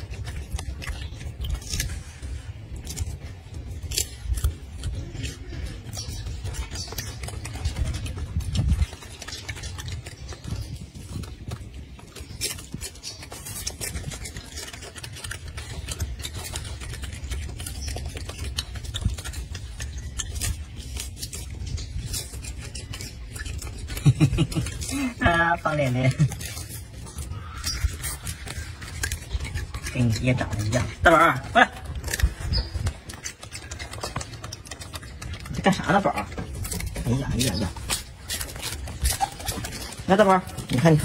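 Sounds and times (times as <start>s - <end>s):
leaves rustling: 0.0s - 41.0s
monkey chewing lettuce crunches: 0.0s - 41.0s.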